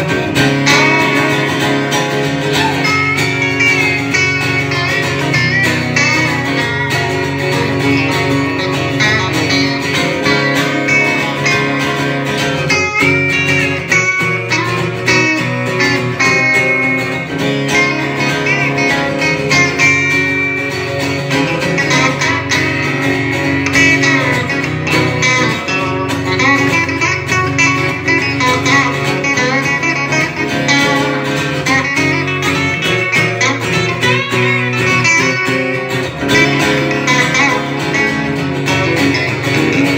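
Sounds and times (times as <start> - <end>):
electric guitar: 0.0 - 39.9
strummed acoustic guitar: 0.0 - 39.9.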